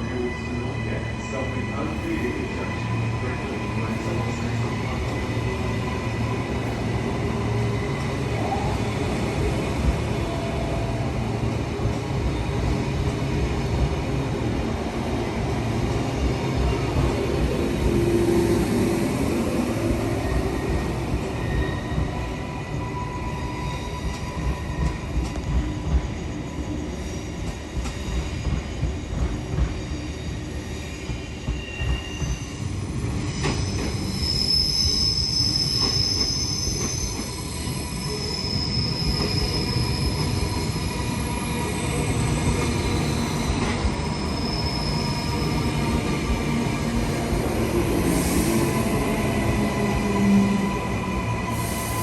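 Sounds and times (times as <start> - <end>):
train wheels rumbling on track: 0.0 - 52.0.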